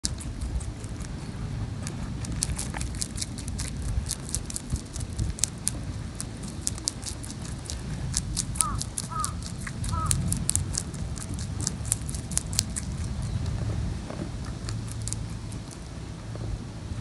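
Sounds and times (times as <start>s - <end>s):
rabbit chewing a crisp leaf: 0.0s - 17.0s.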